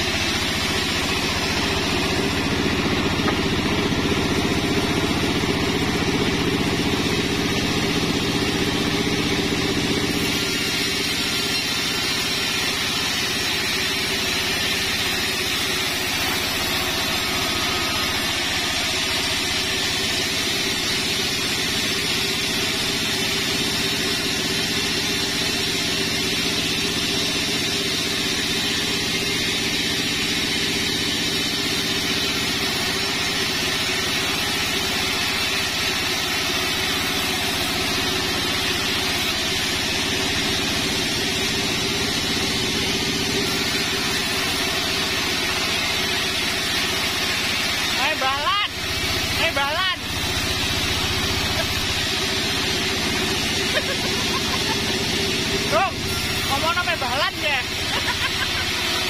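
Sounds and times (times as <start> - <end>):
band saw machine drone: 0.0 - 59.0
saw blade cutting wood: 0.0 - 59.0.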